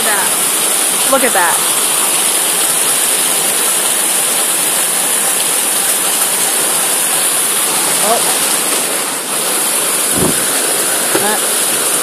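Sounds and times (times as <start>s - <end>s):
torrential rain pouring: 0.0s - 12.0s.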